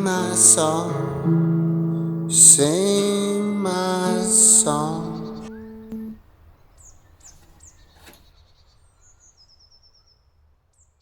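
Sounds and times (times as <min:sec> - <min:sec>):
songbird chirps and trill: 0:00.0 - 0:11.0.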